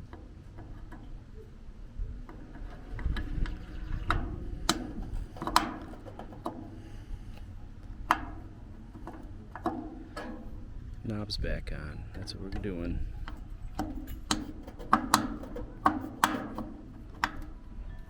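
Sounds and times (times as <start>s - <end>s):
grill knobs clicking and knocking: 2.2s - 17.8s.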